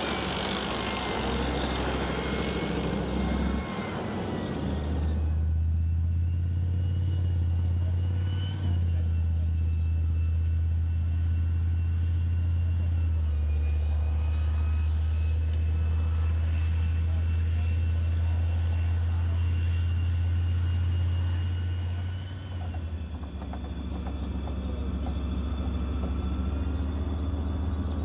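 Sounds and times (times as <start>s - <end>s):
tank engine and tracks: 0.0s - 28.0s.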